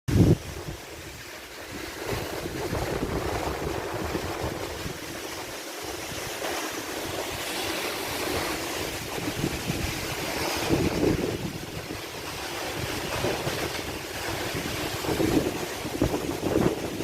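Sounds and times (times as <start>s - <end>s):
waterfall rushing: 0.1s - 17.0s
wind buffeting microphone: 0.1s - 17.0s.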